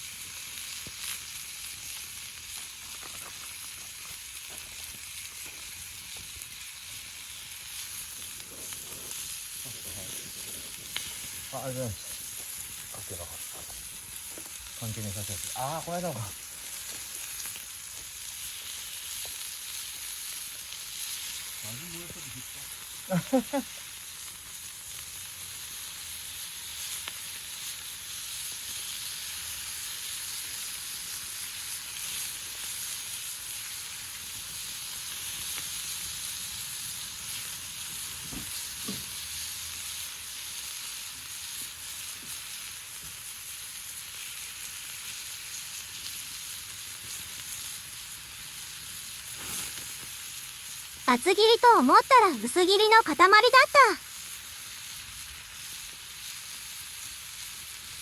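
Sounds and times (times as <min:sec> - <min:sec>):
meat sizzling in a pan: 0:00.0 - 0:58.0.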